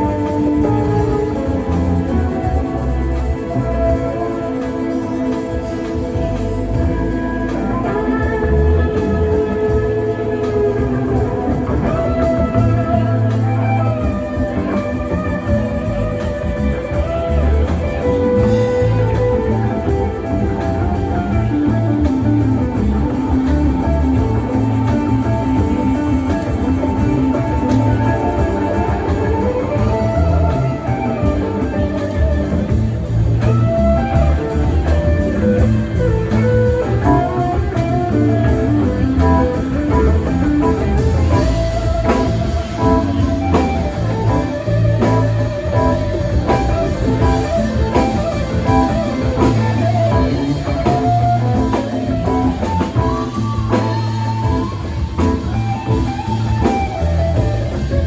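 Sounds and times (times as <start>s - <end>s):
electric guitar line: 0.0s - 58.0s
live rock band playing: 0.0s - 58.0s.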